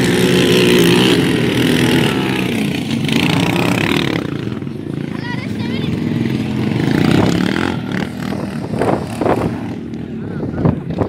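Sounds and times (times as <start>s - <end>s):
off-road vehicle engines revving: 0.0s - 11.0s.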